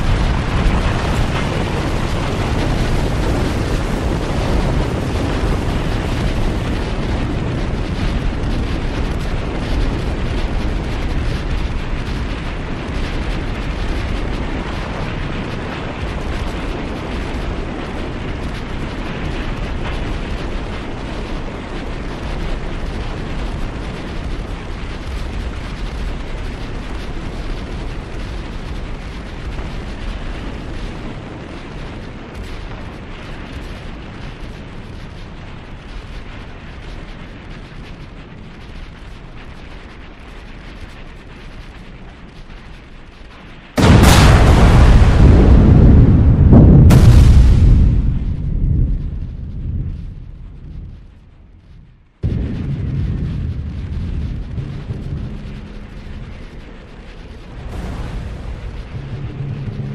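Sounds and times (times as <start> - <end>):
continuous rushing rumble: 0.0 - 59.9.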